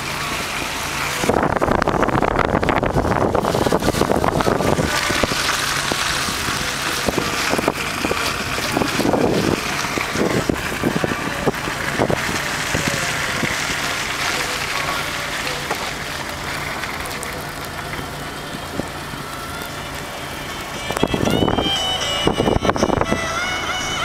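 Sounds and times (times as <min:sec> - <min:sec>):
low engine hum: 0:00.0 - 0:24.0
tyres and wind hissing: 0:00.0 - 0:24.0.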